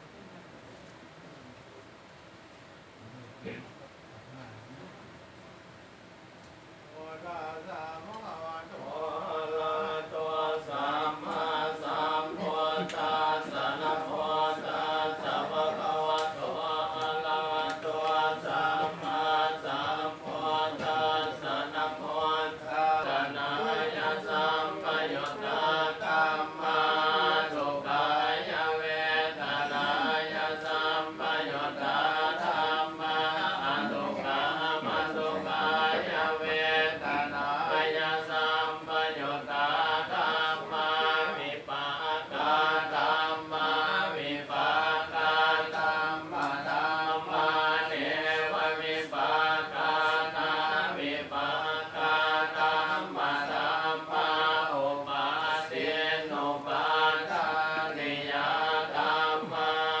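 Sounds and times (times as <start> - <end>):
voices chanting in unison: 7.0 - 60.0.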